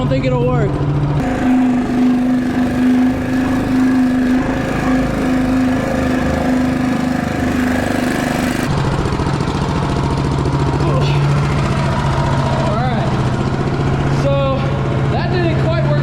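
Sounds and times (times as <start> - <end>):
mini bike engine running: 1.2 - 16.0.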